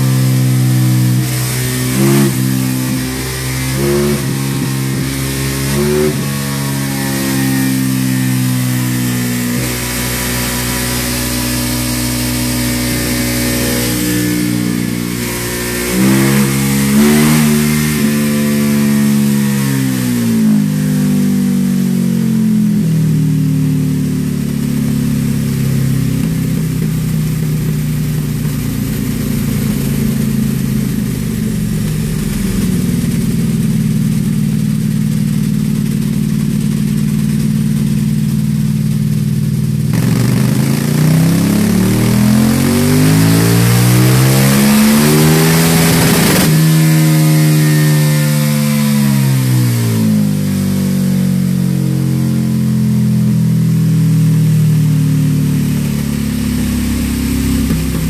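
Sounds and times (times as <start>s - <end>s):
motorcycle engine revving on dyno: 0.0s - 58.0s.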